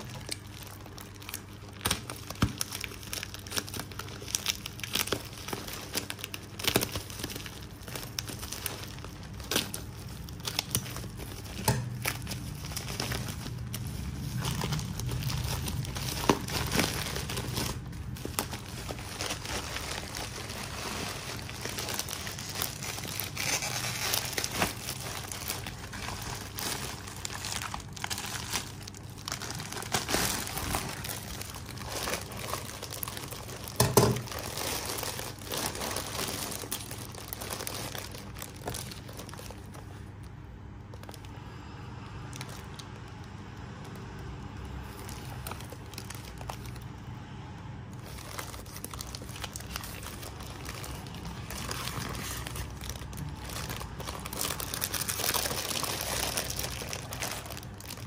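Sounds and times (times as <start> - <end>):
plastic packaging crinkling: 0.0 - 41.6, 42.2 - 47.0, 47.9 - 58.0.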